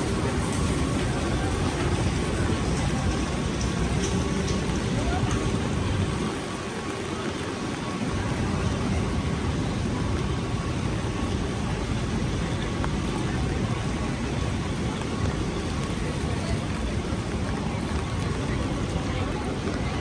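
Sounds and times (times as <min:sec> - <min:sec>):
low traffic rumble: 0:00.0 - 0:20.0
steady rain on a street: 0:00.0 - 0:20.0.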